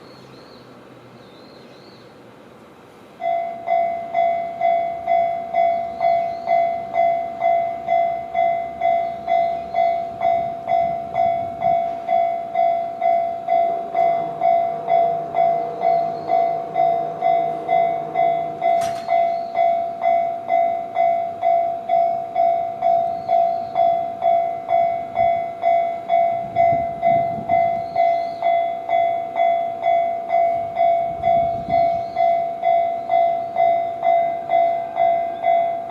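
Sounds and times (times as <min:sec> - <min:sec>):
electric train passing: 0:00.0 - 0:35.9
level-crossing alarm bell dinging: 0:03.2 - 0:35.9.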